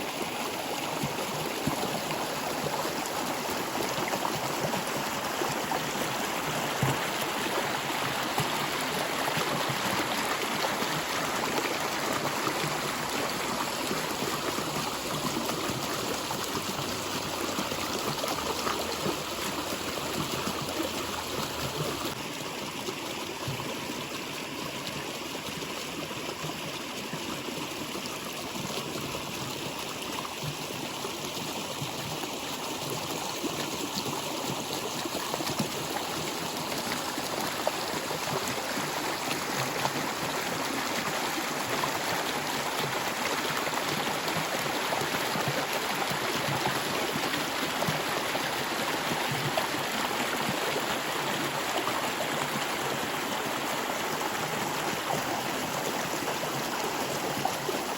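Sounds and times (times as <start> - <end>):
stream water trickling: 0.0 - 57.9.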